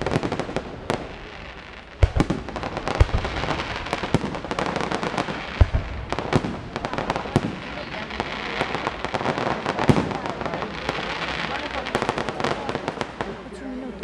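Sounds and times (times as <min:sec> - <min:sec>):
firework bangs: 0:00.0 - 0:13.5
firework crackling: 0:00.0 - 0:13.8.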